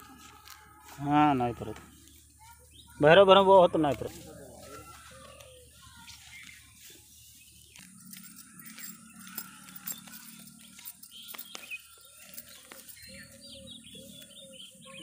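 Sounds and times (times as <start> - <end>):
bird chirps: 1.7 - 15.0.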